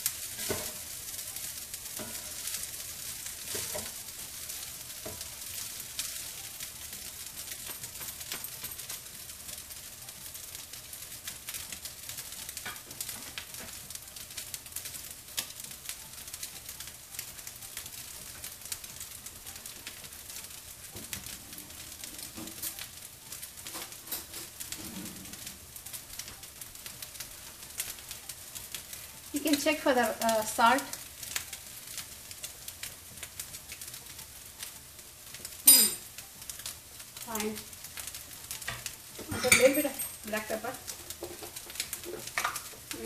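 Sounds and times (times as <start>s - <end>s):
rice sizzling in frying pan: 0.0s - 43.0s
spatulas stirring in pan: 0.0s - 43.0s.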